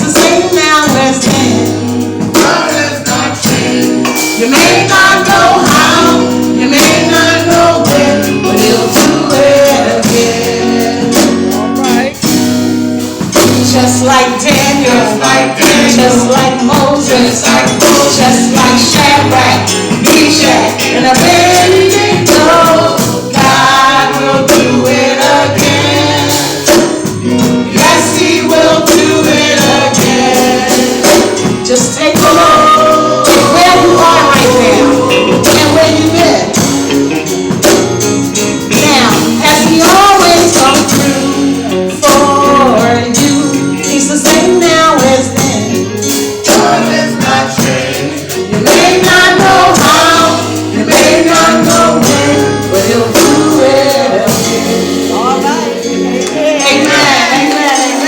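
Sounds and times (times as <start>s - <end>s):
choir singing gospel song: 0.0s - 58.0s.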